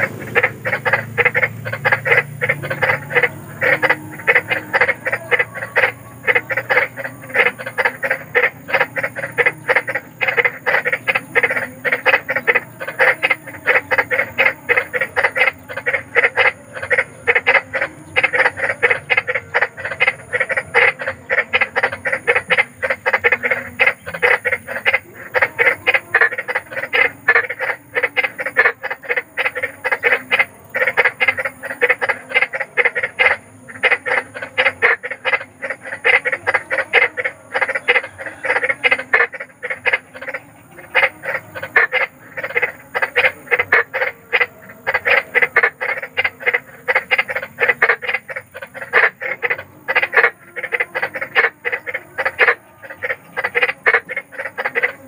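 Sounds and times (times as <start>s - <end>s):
frogs croaking: 0.0s - 55.0s.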